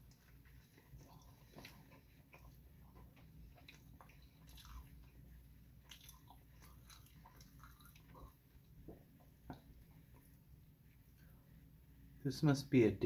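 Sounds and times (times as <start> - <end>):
mouth chewing food: 0.0 - 10.5.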